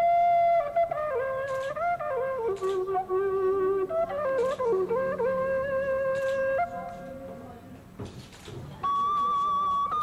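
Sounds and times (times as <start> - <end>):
gourd wind instrument melody: 0.0 - 7.8, 8.8 - 10.0.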